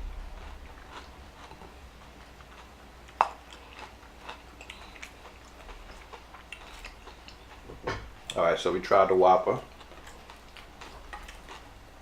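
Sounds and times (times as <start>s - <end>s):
person chewing burger: 0.0s - 8.4s, 9.6s - 12.0s.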